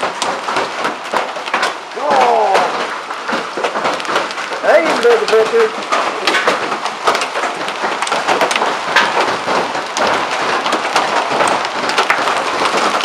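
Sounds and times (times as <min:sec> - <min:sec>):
hail and rain hissing: 0:00.0 - 0:13.0
hailstones clicking on surfaces: 0:00.0 - 0:13.0.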